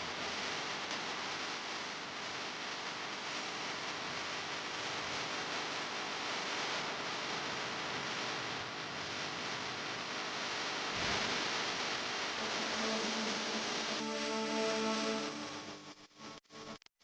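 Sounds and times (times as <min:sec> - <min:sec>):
steady broadband hiss: 0:00.0 - 0:16.7.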